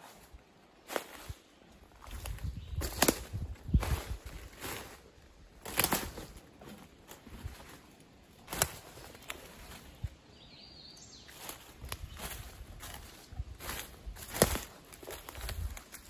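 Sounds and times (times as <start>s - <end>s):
footsteps on forest ground: 0.0s - 16.0s.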